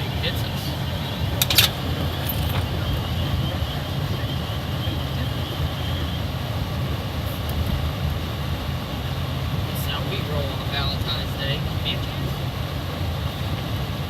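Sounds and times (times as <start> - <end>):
car driving on snow: 0.0 - 14.0.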